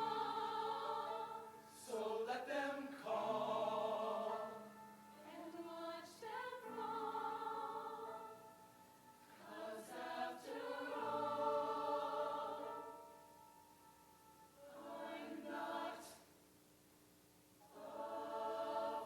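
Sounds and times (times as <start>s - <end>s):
choir singing held chords: 0.0s - 16.4s, 17.6s - 19.0s.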